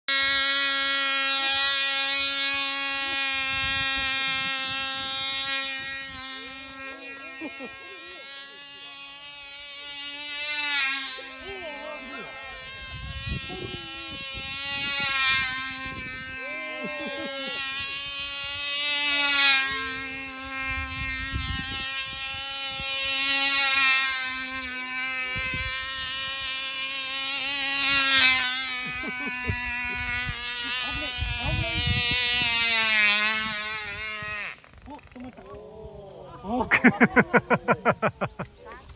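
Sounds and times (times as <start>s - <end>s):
model airplane engine buzzing: 0.0s - 38.9s.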